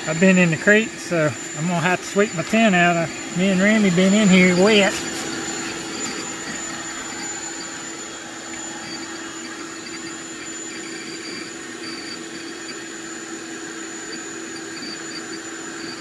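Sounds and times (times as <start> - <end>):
electric air pump humming: 0.0 - 16.0
faint high whine: 0.0 - 16.0.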